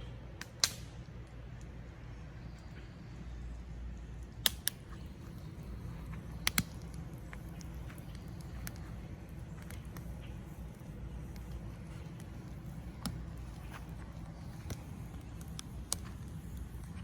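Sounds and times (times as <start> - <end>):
campfire crackling and popping: 0.3 - 1.8, 4.0 - 17.0.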